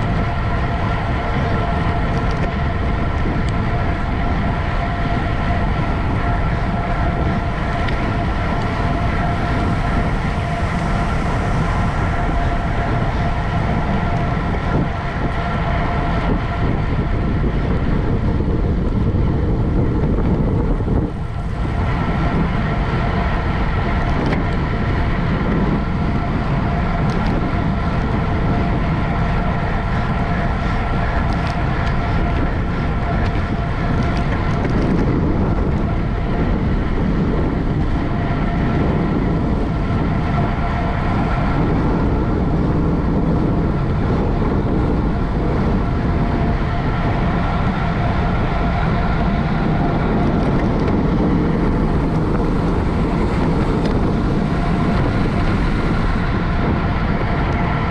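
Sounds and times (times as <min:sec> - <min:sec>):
constant tonal hum: 0:00.0 - 0:57.9
wind rush on microphone: 0:00.0 - 0:57.9.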